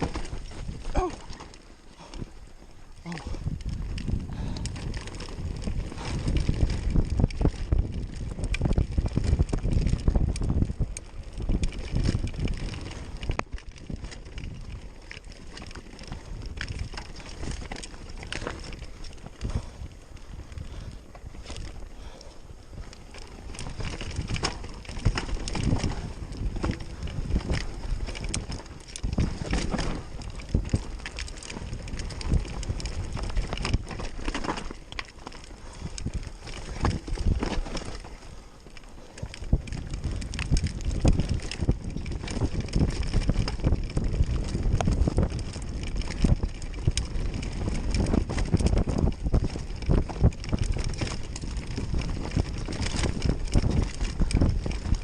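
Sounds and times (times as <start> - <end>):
vehicle rumble on rough trail: 0.0 - 55.0
wind buffeting microphone: 0.0 - 55.0.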